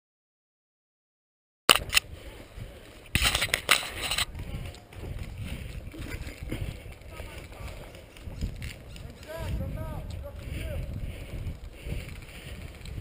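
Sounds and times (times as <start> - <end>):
leaves and branches rustling: 2.1 - 13.0.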